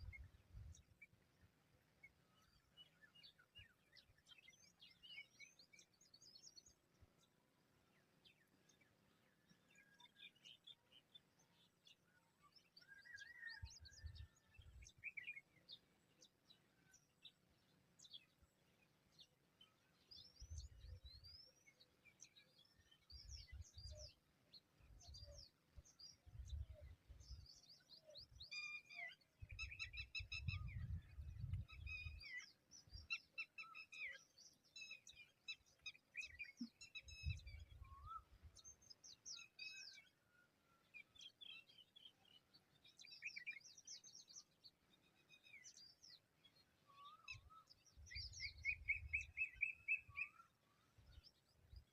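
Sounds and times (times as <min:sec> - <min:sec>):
faint bird chirps: 0:01.9 - 0:51.9.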